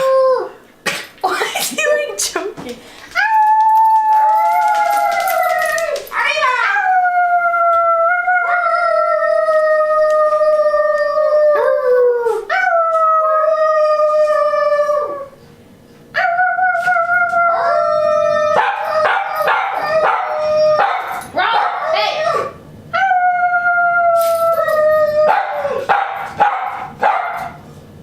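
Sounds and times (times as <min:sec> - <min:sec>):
dog howling: 0:00.0 - 0:00.6, 0:03.2 - 0:15.4, 0:16.2 - 0:27.5.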